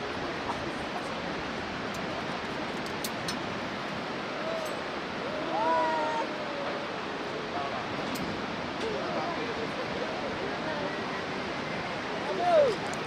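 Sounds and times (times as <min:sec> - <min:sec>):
fast river rushing: 0:00.0 - 0:13.0.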